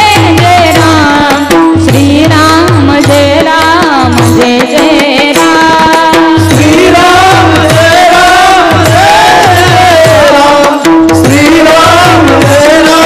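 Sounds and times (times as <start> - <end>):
devotional singing: 0.0 - 13.0
hand drum beat: 0.0 - 13.0.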